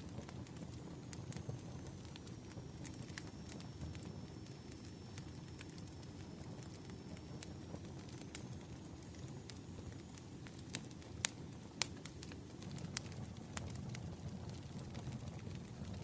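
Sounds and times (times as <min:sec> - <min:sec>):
firewood crackling and popping: 0:00.0 - 0:16.0
low fire rumble: 0:00.0 - 0:16.0.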